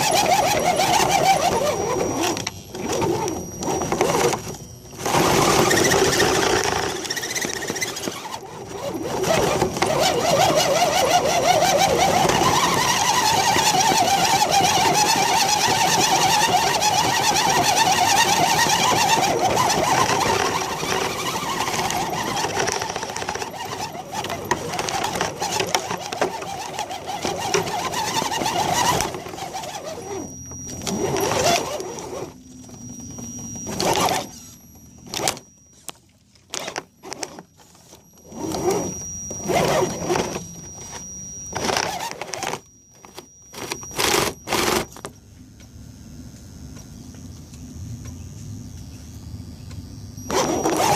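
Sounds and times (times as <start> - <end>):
toy truck electric motor whirring: 0.0 - 45.1, 50.0 - 50.9.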